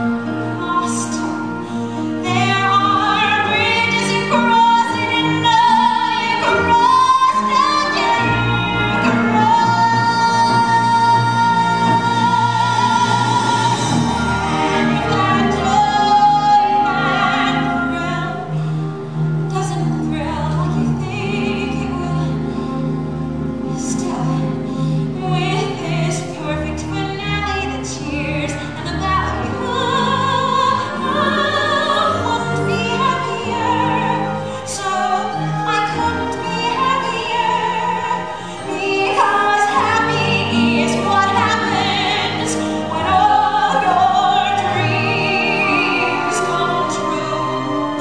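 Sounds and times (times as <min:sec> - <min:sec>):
instrumental accompaniment: 0:00.0 - 0:48.0
woman singing operatically: 0:00.0 - 0:48.0.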